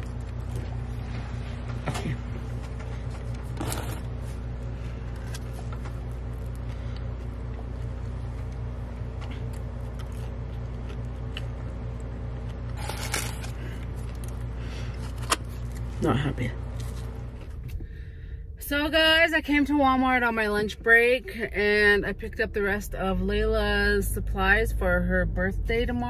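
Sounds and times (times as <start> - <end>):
car engine humming in cabin: 0.0 - 26.0.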